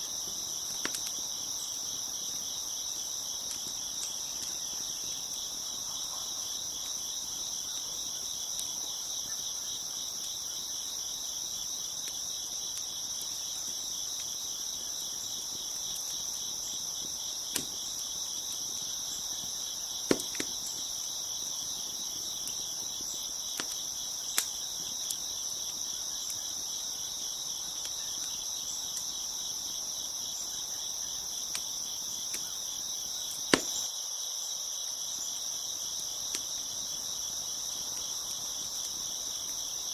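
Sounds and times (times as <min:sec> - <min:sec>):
wood fire crackling and popping: 0:00.0 - 0:30.4, 0:31.0 - 0:33.9, 0:35.8 - 0:39.9
crickets chirping: 0:00.0 - 0:39.9.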